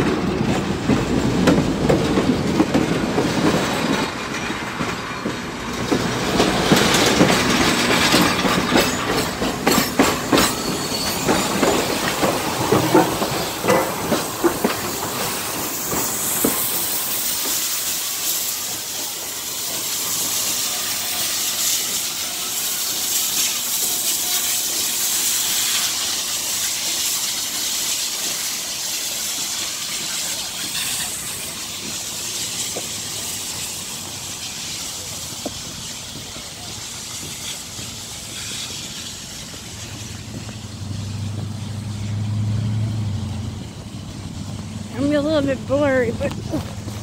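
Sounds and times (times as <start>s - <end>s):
rail car wheels clicking: 0.0s - 47.0s
steam locomotive hissing: 0.0s - 47.0s.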